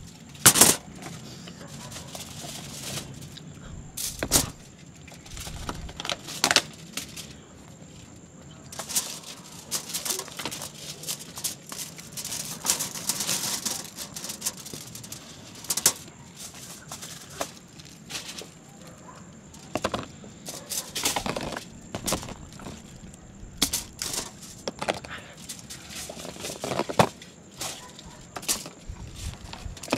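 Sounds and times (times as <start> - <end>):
crinkly packaging rustles: 0.0 - 29.9.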